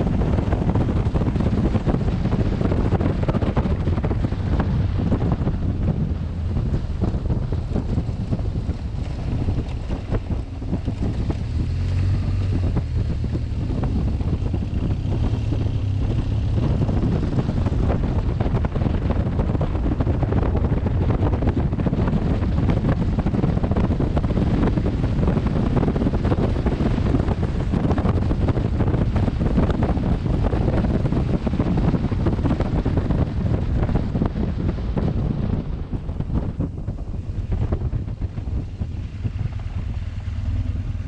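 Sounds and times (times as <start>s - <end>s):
motorcycle engine droning: 0.0s - 41.0s
wind buffeting microphone: 0.0s - 41.0s.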